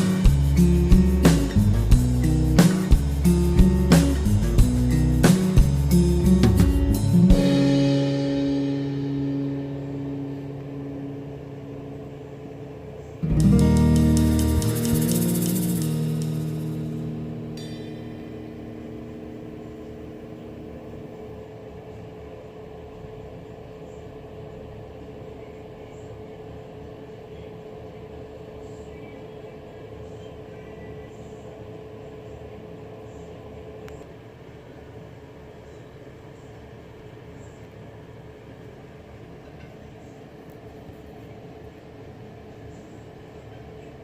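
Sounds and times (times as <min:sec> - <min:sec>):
constant hum: 0:00.0 - 0:44.0.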